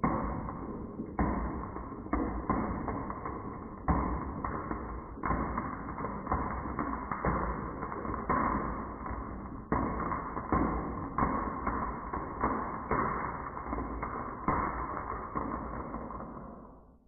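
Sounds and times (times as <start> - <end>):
marbles knocking: 0.0 - 16.8
marbles rolling down wooden run: 0.1 - 16.7.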